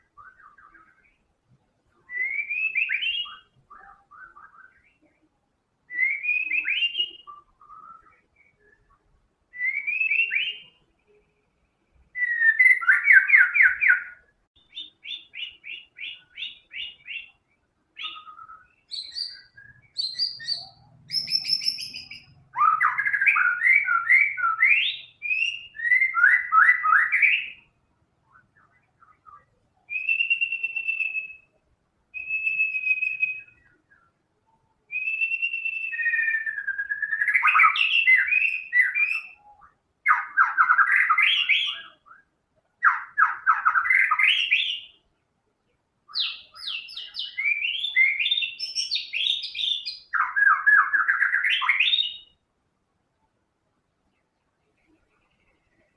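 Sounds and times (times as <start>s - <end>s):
songbird singing varied phrases: 0.0s - 55.9s.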